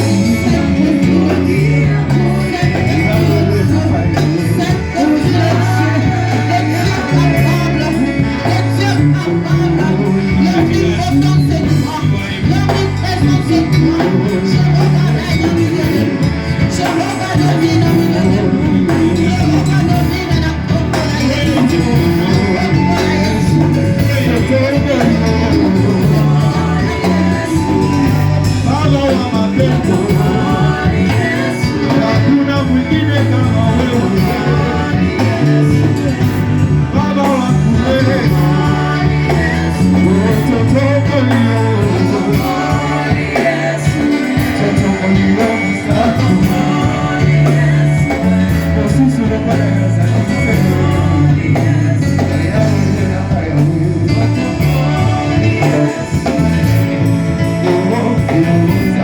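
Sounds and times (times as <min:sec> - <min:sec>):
worship singing over a band: 0:00.0 - 0:59.0.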